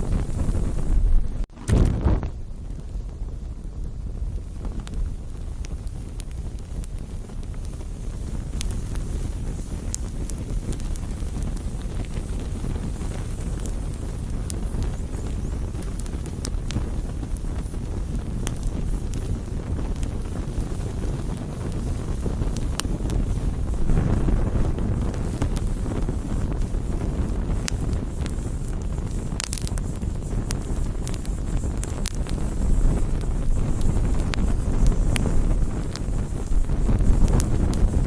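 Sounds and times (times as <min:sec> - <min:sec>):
campfire crackling and popping: 0:00.0 - 0:38.0
fire low rumble: 0:00.0 - 0:38.0.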